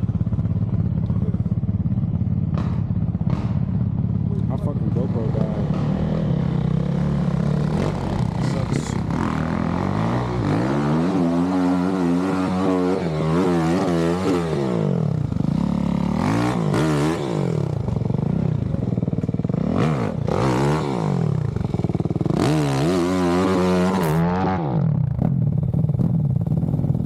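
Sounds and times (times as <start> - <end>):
clatter: 0.0 - 9.6, 13.7 - 27.0
dirt bike engine revving: 1.8 - 27.0.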